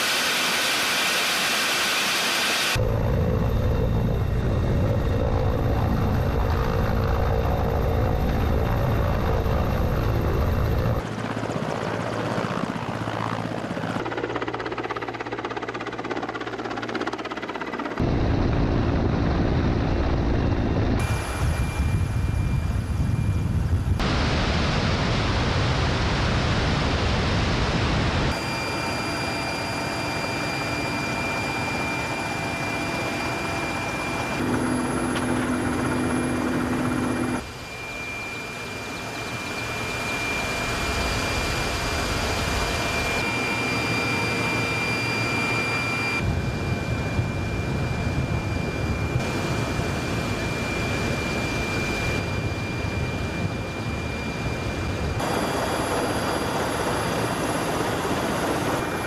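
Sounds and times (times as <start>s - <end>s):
helicopter engines and rotor: 0.0s - 59.0s
high turbine whine: 0.0s - 59.0s.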